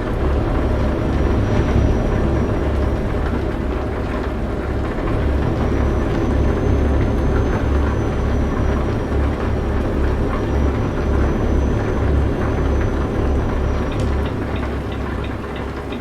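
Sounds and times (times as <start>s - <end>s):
heavy truck engine drone: 0.0s - 16.0s.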